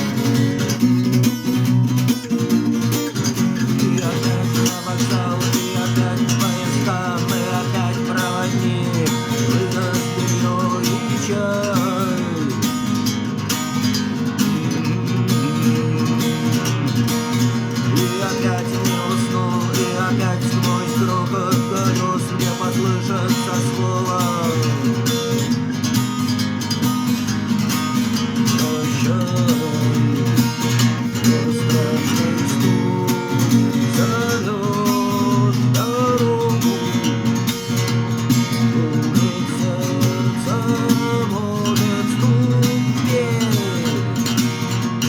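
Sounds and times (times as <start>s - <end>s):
strummed acoustic guitar: 0.0s - 45.0s.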